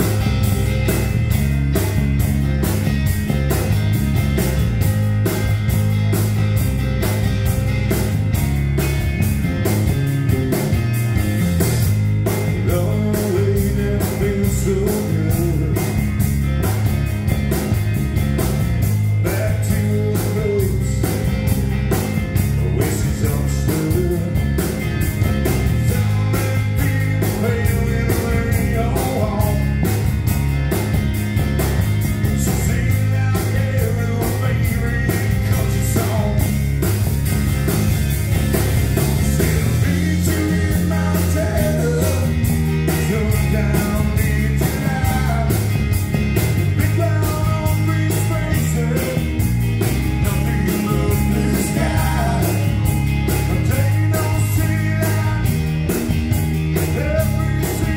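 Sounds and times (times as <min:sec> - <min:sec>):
bass guitar: 0:00.0 - 0:57.9
busy drum beat: 0:00.0 - 0:57.9
electric guitar: 0:00.0 - 0:57.9.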